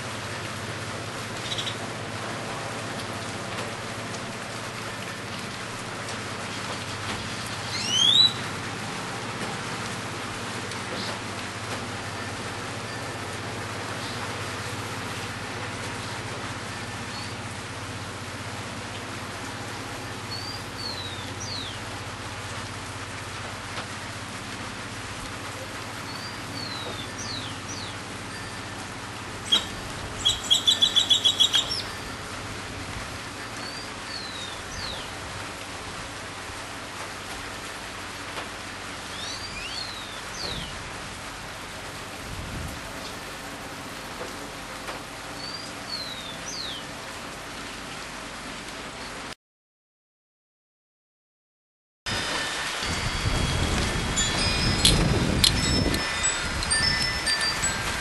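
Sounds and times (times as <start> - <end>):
steady rain: 0.0 - 49.4, 52.1 - 58.0.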